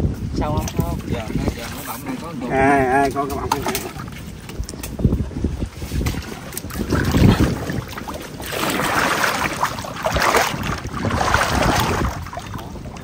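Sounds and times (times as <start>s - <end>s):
water sloshing and splashing: 0.4s - 13.0s.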